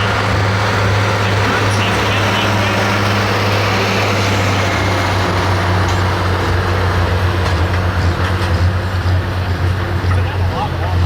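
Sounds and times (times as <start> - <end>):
large diesel engine droning: 0.0 - 11.0.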